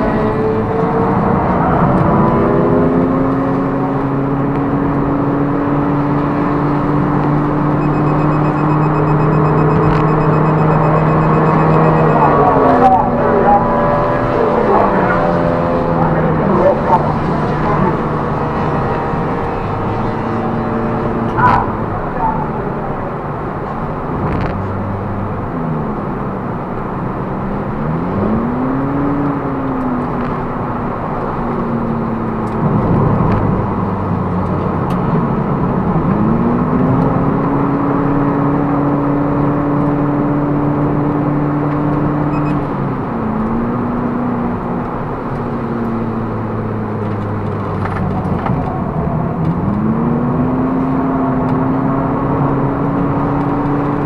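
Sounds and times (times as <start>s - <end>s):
car engine driven hard: 0.0s - 54.0s
tyre and road noise: 0.0s - 54.0s.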